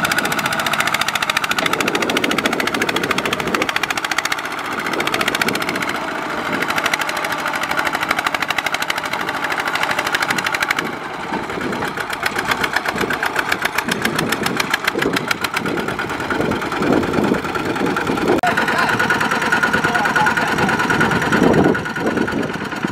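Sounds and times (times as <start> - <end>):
diesel engine chugging: 0.0 - 22.9.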